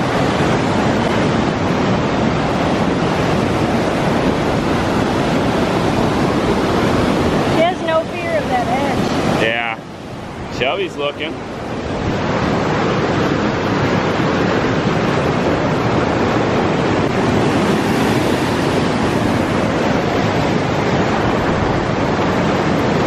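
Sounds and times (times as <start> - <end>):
river rushing over rapids: 0.0 - 23.0.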